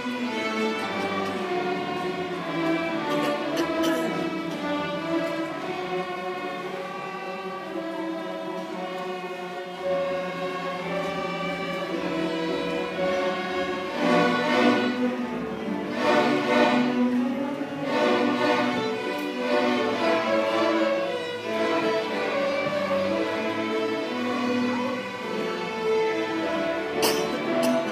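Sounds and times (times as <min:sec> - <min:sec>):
string orchestra playing: 0:00.0 - 0:27.9.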